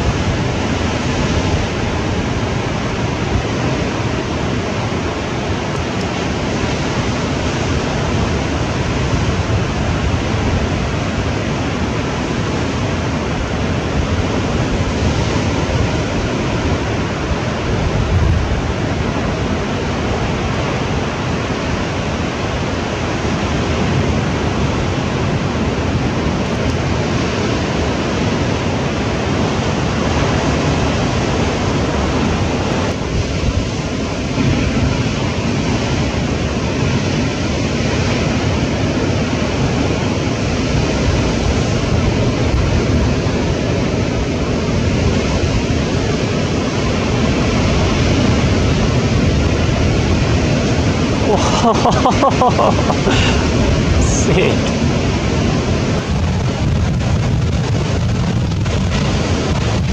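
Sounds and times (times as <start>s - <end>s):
wind noise on microphone: 0.0s - 51.3s, 52.0s - 59.9s
ocean waves breaking: 0.0s - 59.9s.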